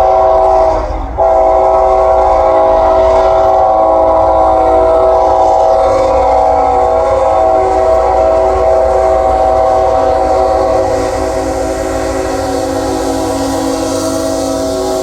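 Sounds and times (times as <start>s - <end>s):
locomotive air horn chord: 0.0s - 15.0s
passing train rumble: 0.0s - 15.0s.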